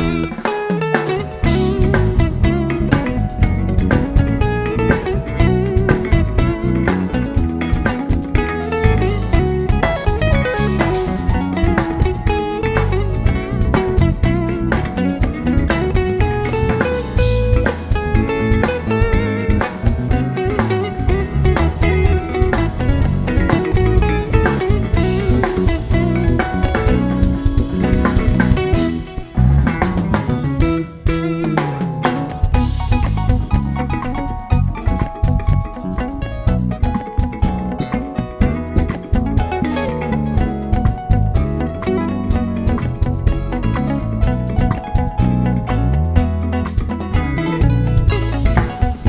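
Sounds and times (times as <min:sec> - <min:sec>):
bass line: 0:00.0 - 0:00.5, 0:01.1 - 0:49.0
drum kit: 0:00.0 - 0:49.0
guitar: 0:00.0 - 0:49.0.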